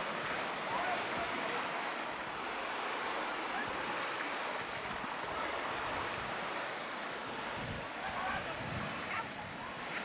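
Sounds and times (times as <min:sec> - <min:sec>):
rushing whitewater: 0:00.0 - 0:10.0.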